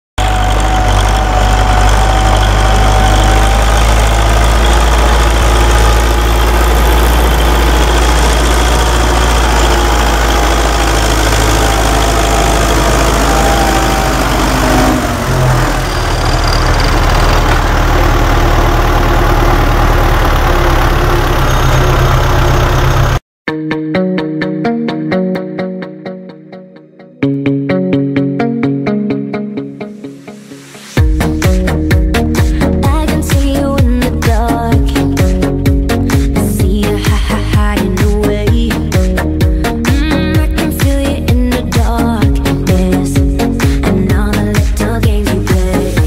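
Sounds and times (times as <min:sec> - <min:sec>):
tractor diesel engine under load: 0:00.2 - 0:23.2, 0:31.0 - 0:46.0.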